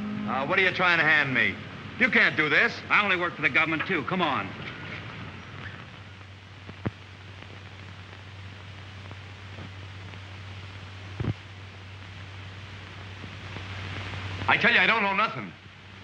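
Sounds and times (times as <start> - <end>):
film soundtrack hiss: 0.0 - 16.0
low constant hum: 0.0 - 16.0.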